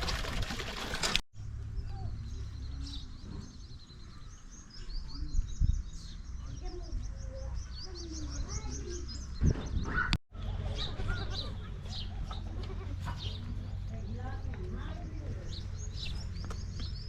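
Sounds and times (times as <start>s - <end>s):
small birds chirping: 1.4s - 17.0s.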